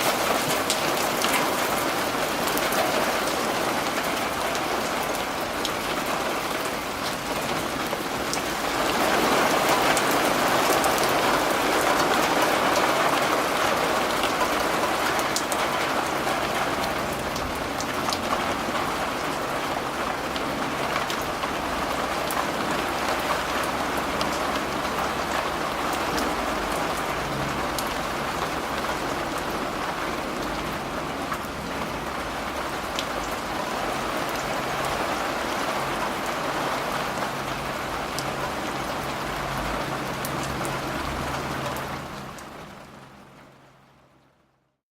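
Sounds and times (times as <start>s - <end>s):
heavy rain: 0.0s - 44.6s.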